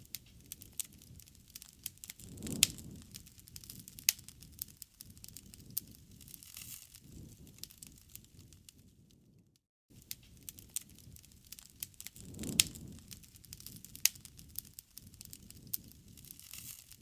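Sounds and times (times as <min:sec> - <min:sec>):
loud fire pops: 0:00.0 - 0:09.2, 0:10.0 - 0:17.0
low rush of flames: 0:00.0 - 0:09.4, 0:10.0 - 0:17.0
bonfire crackling: 0:00.0 - 0:17.0.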